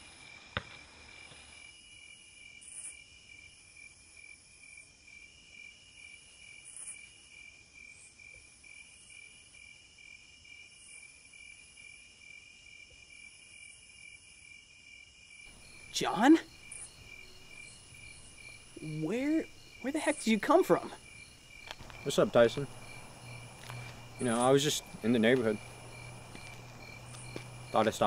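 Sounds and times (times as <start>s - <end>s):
crickets chirping: 0.0s - 28.0s
high-pitched insect call: 0.0s - 28.0s.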